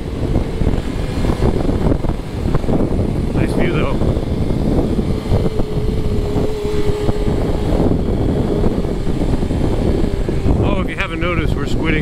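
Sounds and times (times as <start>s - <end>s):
motorcycle engine cruising: 0.0s - 12.0s
wind noise on microphone: 0.0s - 12.0s.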